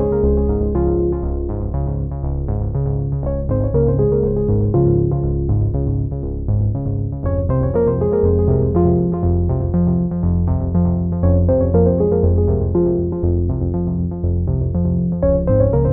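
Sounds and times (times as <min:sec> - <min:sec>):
synthesizer music with steady beat: 0:00.0 - 0:15.9.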